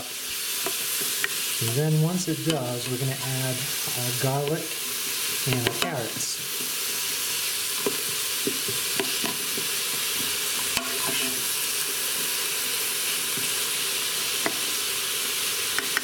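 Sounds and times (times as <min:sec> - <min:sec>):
onions and peppers sizzling in butter: 0:00.0 - 0:16.0.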